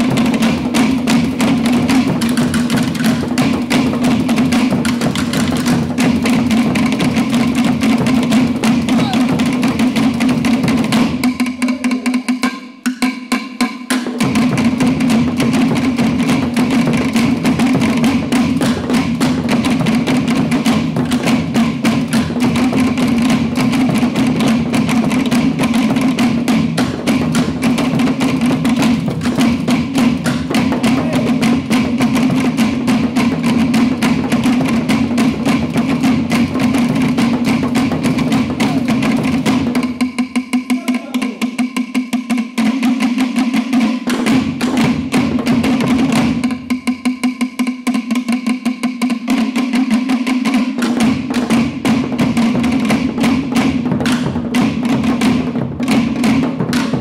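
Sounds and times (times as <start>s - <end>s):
deep drums: 0.0s - 57.0s
wooden slit drums struck rapidly: 0.0s - 57.0s.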